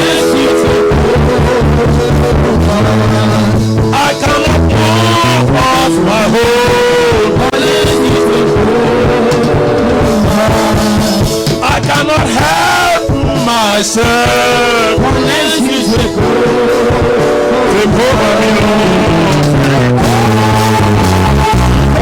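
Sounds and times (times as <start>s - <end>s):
voices singing and wailing: 0.0s - 22.0s
worship band playing: 0.0s - 22.0s.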